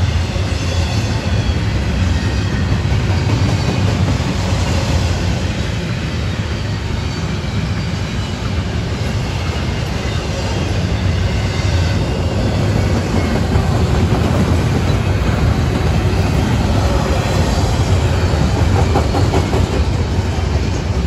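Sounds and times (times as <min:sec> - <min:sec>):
steel wheels rolling on rail: 0:00.0 - 0:21.0.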